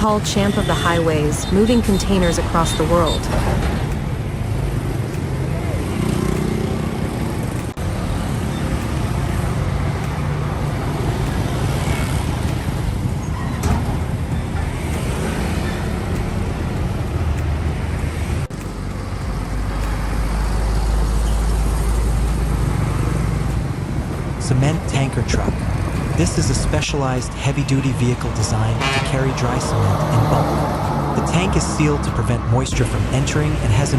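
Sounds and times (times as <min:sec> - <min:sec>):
road traffic noise: 0:00.0 - 0:33.9
truck engine rumbling: 0:00.0 - 0:33.9.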